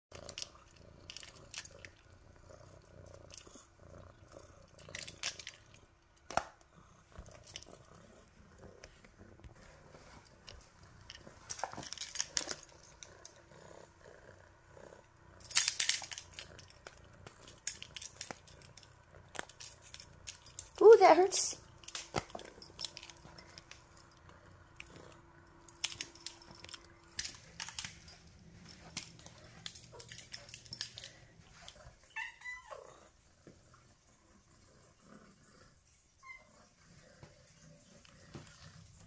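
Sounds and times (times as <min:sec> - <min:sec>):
kitten purring: 0:00.1 - 0:39.0.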